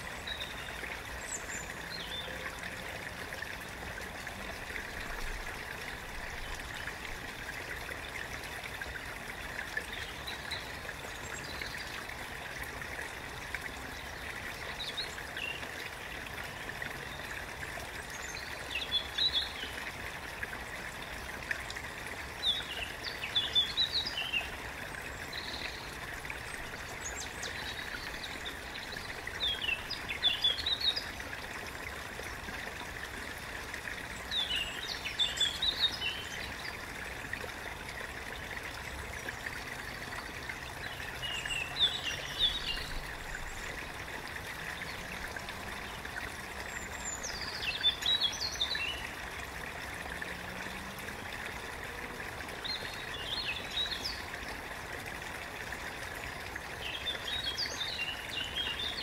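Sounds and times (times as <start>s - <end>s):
small stream trickling: 0.0s - 59.0s.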